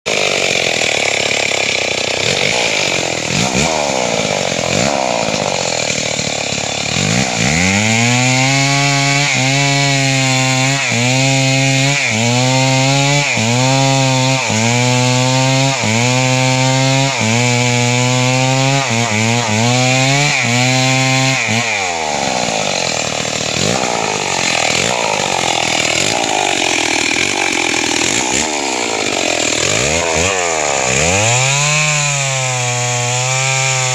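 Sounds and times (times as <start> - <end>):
chainsaw cutting into tree: 0.0 - 33.9.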